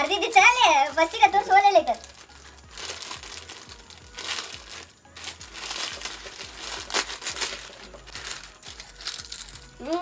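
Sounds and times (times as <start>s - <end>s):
chip packets crinkling: 0.8s - 10.0s.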